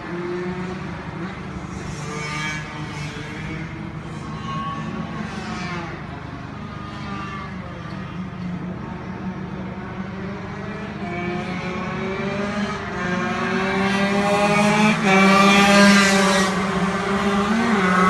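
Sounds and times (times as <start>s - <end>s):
racing kart engines accelerating: 0.0s - 18.0s.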